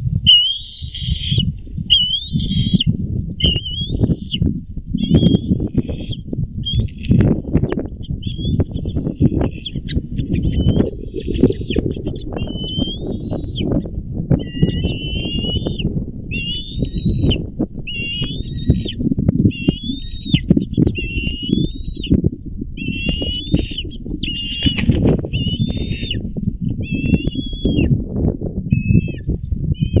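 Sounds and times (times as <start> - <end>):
rough low rumbling noise: 0.0 - 30.0
eagles calling: 0.3 - 27.9.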